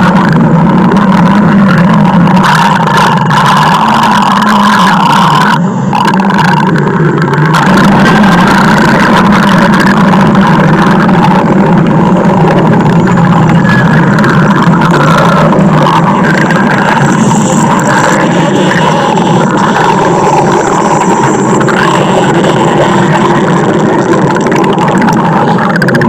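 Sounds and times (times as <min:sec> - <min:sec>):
stomach growling: 0:00.0 - 0:26.0.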